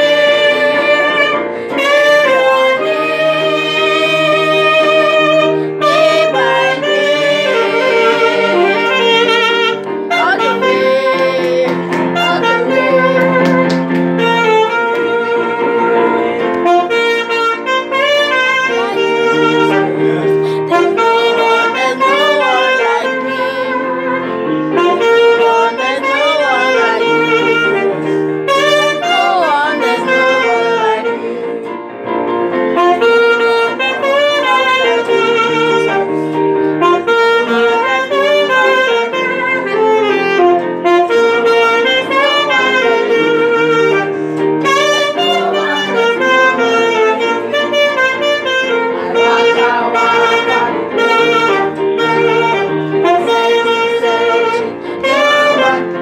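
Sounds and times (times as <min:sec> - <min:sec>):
saxophone melody: 0:00.0 - 0:56.0
sustained accompanying chords: 0:00.0 - 0:56.0.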